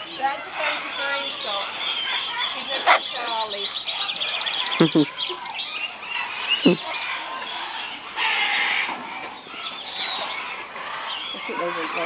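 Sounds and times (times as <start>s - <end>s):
parrots chirping: 0.0s - 12.0s.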